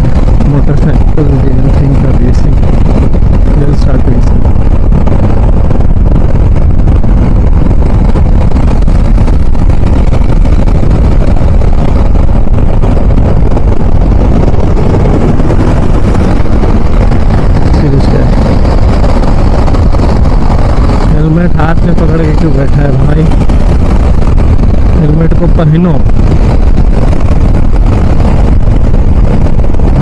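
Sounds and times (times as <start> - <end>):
road noise: 0.0 - 30.0
wind rumble on microphone: 0.0 - 30.0
motorcycle engine: 4.2 - 30.0.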